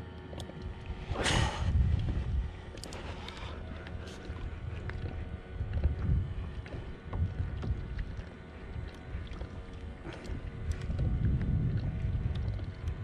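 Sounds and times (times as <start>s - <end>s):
water lapping against a kayak: 0.0s - 13.0s
wind rumbling on microphone: 0.0s - 13.0s.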